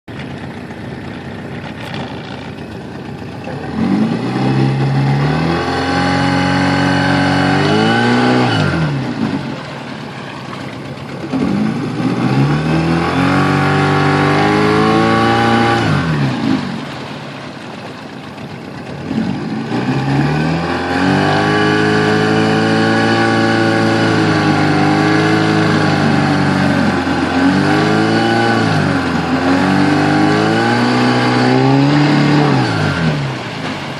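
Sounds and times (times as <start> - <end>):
engine revving: 1.0 - 17.0, 18.9 - 33.9.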